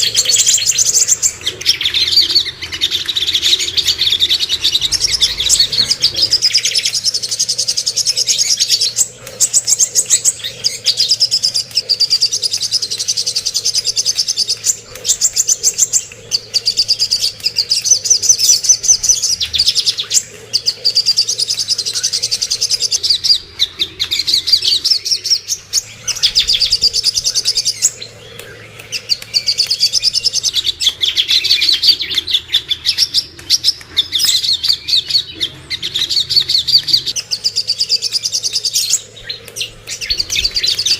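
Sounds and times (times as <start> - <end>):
songbird chirping trills: 0.0 - 40.9.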